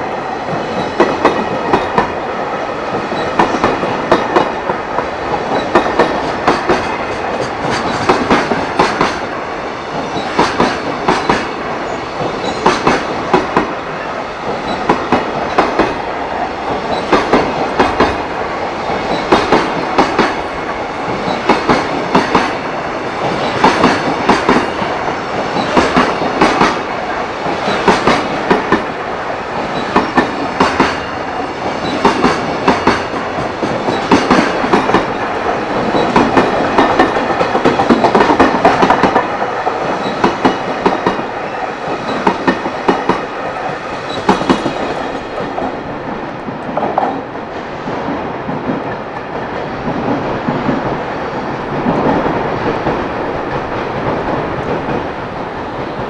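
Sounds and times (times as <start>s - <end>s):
freight train wheels clattering: 0.0s - 56.0s
train rumble: 0.0s - 56.0s.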